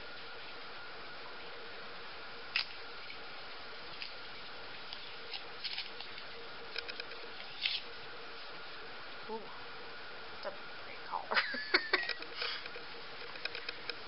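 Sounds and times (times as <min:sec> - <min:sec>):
background hiss: 0:00.0 - 0:14.0
faint hum: 0:00.0 - 0:14.0.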